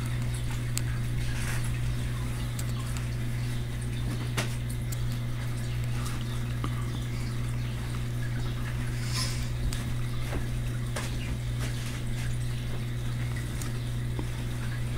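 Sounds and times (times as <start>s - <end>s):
aquarium pump humming: 0.0s - 14.9s
water trickling: 0.0s - 14.9s.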